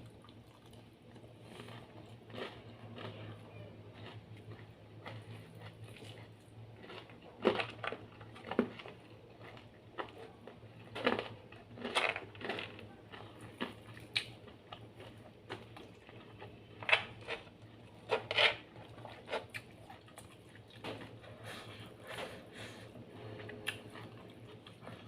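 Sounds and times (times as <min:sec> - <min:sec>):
person chewing and crunching: 0:00.0 - 0:22.5, 0:23.2 - 0:25.0.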